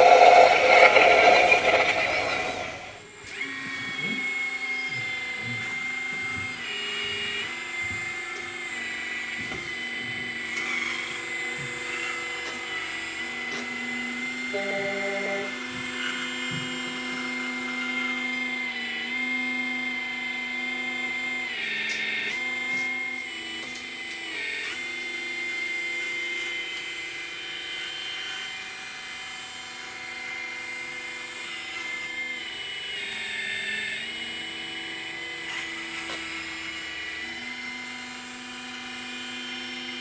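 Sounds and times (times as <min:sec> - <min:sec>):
small electric motors whining: 0:00.0 - 0:40.0.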